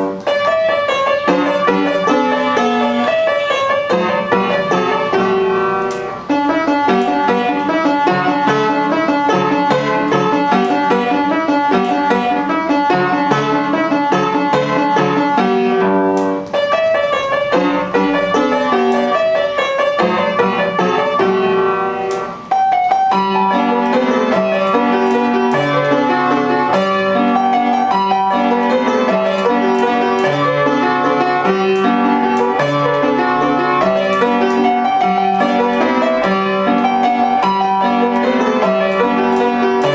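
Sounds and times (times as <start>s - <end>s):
piano playing a waltz: 0.0s - 39.9s.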